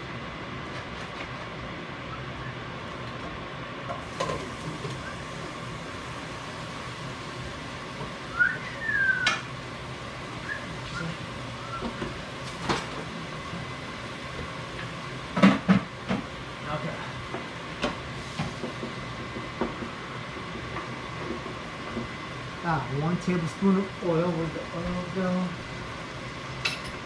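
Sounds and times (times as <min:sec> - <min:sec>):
stovetop cooking hiss: 0:00.0 - 0:27.0.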